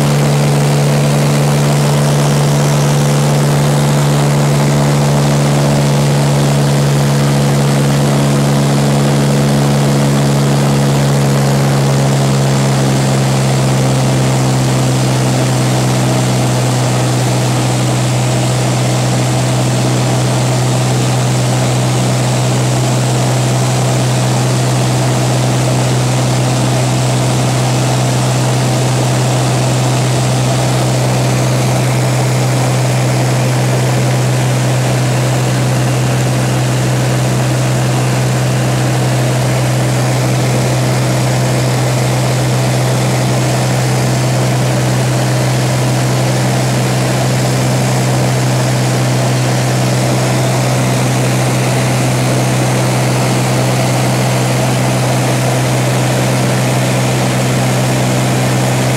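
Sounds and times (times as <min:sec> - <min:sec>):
propeller engine hum in cabin: 0:00.0 - 0:58.9.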